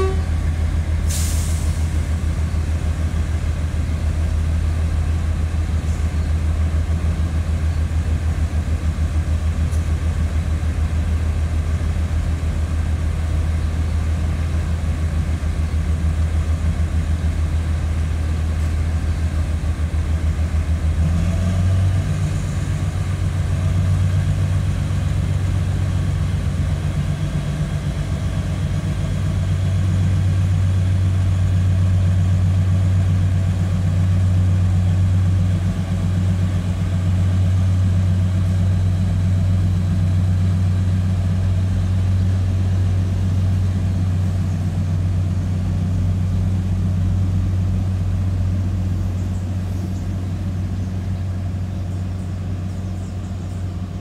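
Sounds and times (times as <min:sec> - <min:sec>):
train engines humming: 0:00.0 - 0:54.0.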